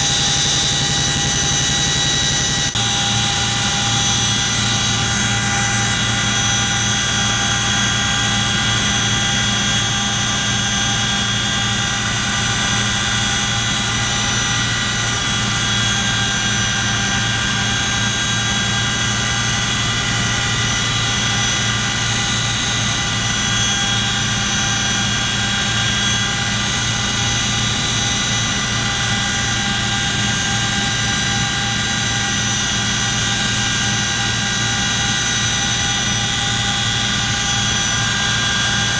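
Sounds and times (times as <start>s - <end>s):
helicopter engines and rotors drone: 0.0s - 38.9s
high steady whining tones: 0.0s - 38.9s.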